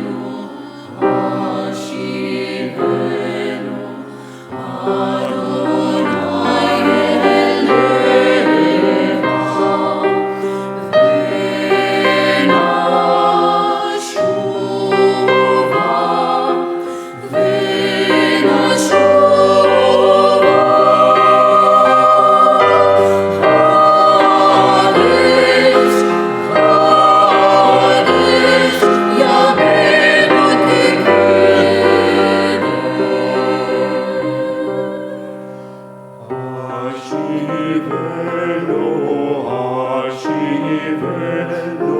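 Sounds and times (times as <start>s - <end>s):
vocal ensemble singing in harmony: 0.0s - 41.9s.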